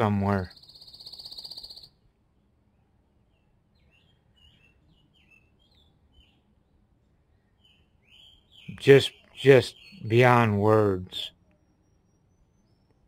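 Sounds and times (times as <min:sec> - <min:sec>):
small bird chirping: 0:00.0 - 0:10.5, 0:11.3 - 0:13.0.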